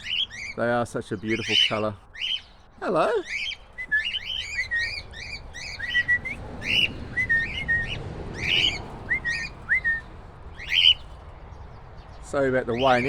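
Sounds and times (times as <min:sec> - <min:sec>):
cockatiels chirping: 0:00.0 - 0:11.2, 0:12.7 - 0:13.0.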